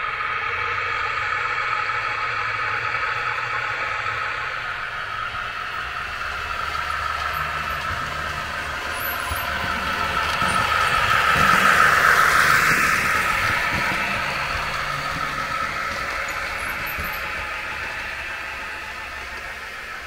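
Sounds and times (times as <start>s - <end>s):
diesel locomotive engine hum: 0.0s - 20.0s.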